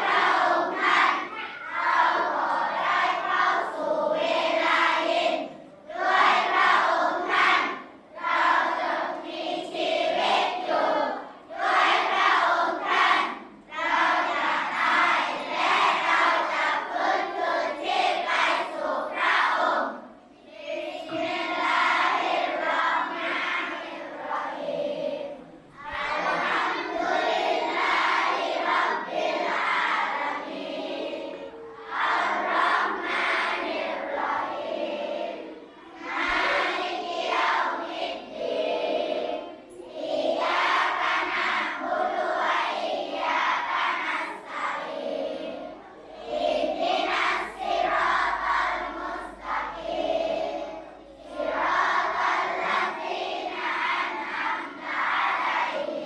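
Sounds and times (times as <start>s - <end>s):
children chanting in unison: 0.0s - 56.0s.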